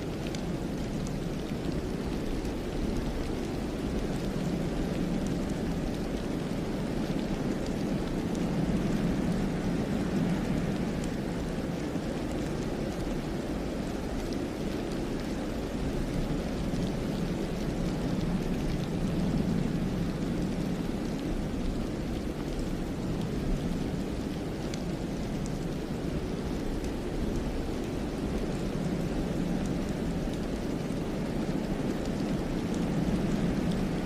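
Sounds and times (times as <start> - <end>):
faint light ticks: 0.0 - 34.0
wind through pine forest: 0.0 - 34.0.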